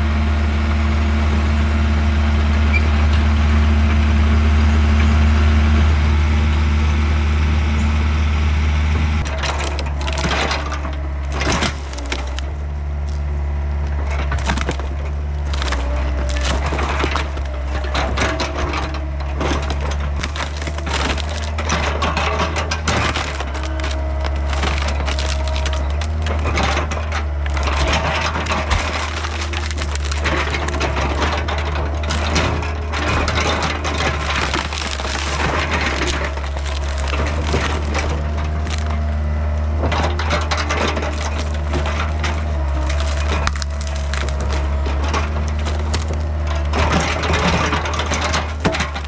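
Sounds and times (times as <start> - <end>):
excavator diesel engine running: 0.0 - 49.0
wood crunching and splintering: 9.0 - 49.0.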